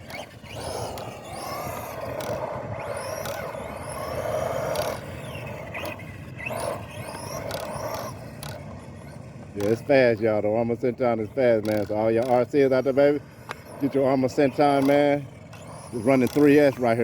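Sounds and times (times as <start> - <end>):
electric motor whining: 0.0 - 17.0
sharp clicks: 0.0 - 17.0.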